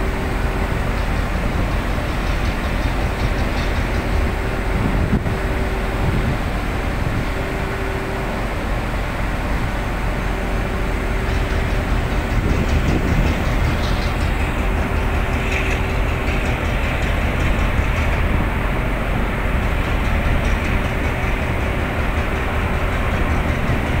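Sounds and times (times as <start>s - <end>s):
ship engines rumbling: 0.0s - 24.0s.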